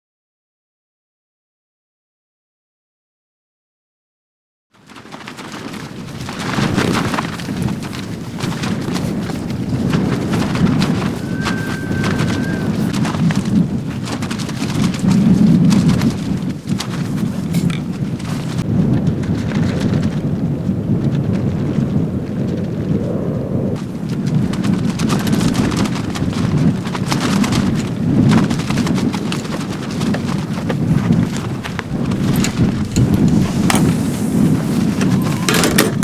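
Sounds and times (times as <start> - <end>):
wind buffeting microphone: 4.9 - 36.0.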